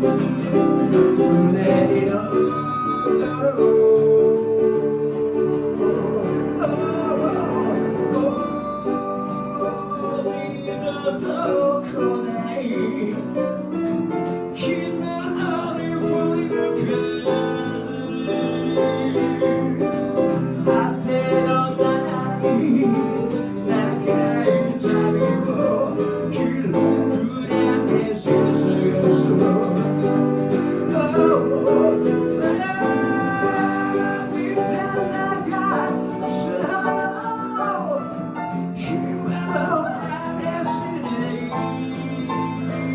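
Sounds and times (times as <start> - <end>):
band music with guitar: 0.0 - 42.9.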